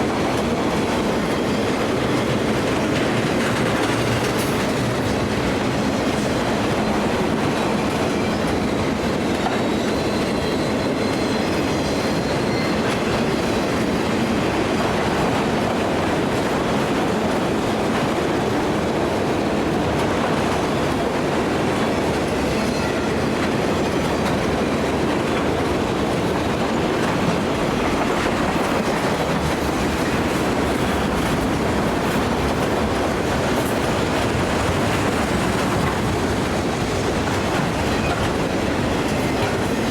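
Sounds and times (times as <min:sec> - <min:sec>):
train rumbling and rattling past: 0:00.0 - 0:39.9.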